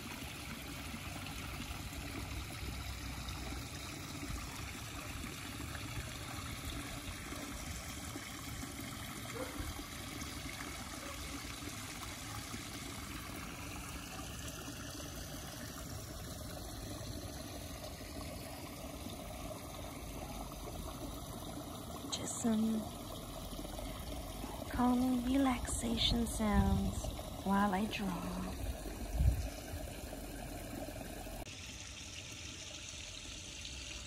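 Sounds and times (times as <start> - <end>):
water trickling in pond: 0.0 - 34.0.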